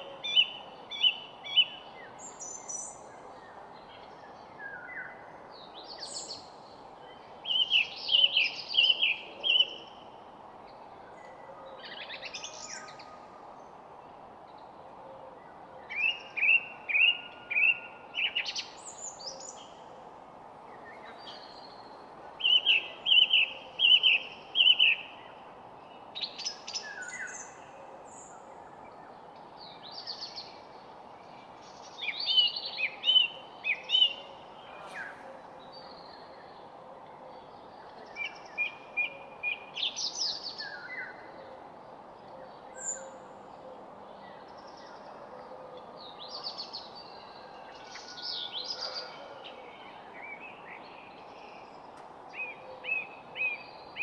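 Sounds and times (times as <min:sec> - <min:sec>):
steady background hiss: 0:00.0 - 0:48.8
songbirds singing: 0:00.0 - 0:54.0.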